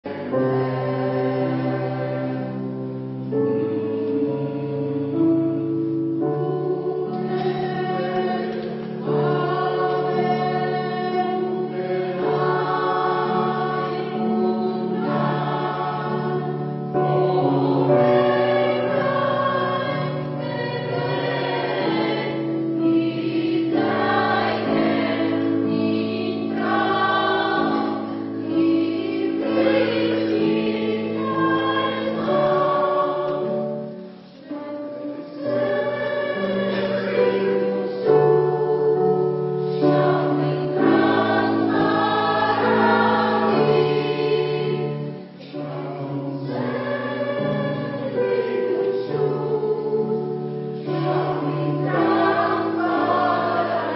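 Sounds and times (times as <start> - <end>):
choir singing sustained chords: 0.0 - 53.9.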